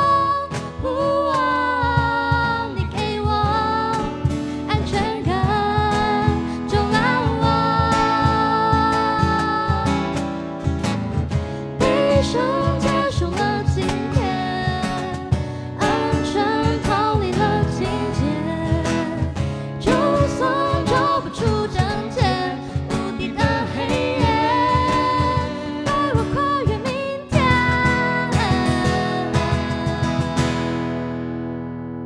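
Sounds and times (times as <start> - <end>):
woman singing into a microphone: 0.0 - 10.7, 11.6 - 30.8
cajon beat: 0.0 - 31.4
acoustic guitars: 0.0 - 32.0.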